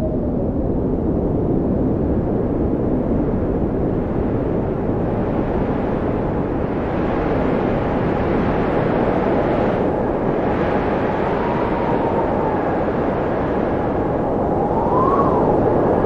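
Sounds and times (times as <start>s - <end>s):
blizzard wind rushing: 0.0s - 16.0s.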